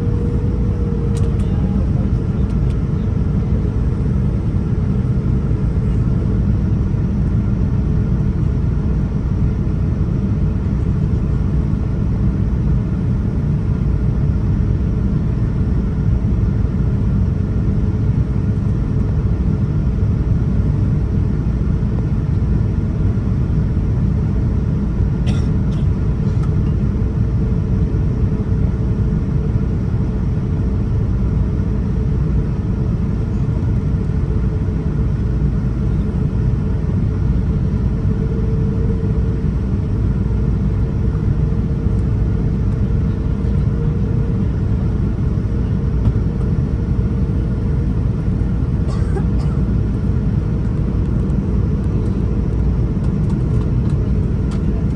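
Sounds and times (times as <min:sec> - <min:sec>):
faint steady hum: 0:00.0 - 0:09.6, 0:17.6 - 0:54.9
airliner cabin engine rumble: 0:00.0 - 0:54.9.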